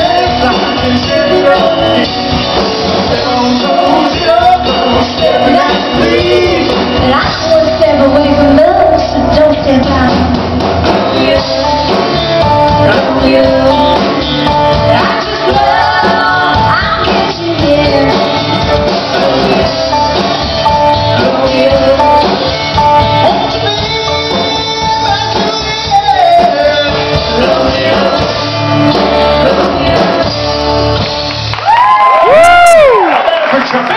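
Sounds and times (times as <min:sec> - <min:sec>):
man and woman singing a duet: 0:00.0 - 0:02.2, 0:03.0 - 0:10.2, 0:10.9 - 0:30.4
acoustic guitar: 0:00.0 - 0:31.6
electric bass: 0:00.0 - 0:33.0.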